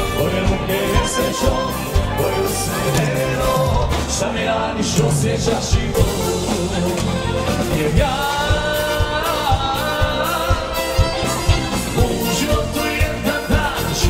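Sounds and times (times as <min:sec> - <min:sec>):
dance band music with drums: 0:00.0 - 0:14.0
person singing: 0:00.0 - 0:14.0.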